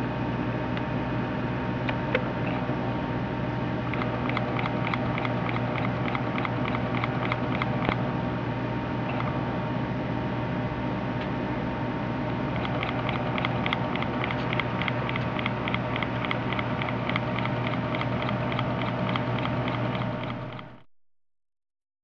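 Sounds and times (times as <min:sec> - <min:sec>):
air pump humming: 0:00.7 - 0:10.2, 0:11.0 - 0:20.9.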